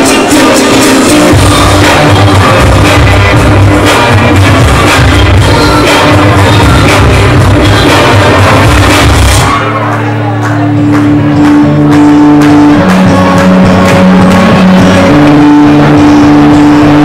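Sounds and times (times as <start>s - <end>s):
loud dance music: 0.0s - 17.0s.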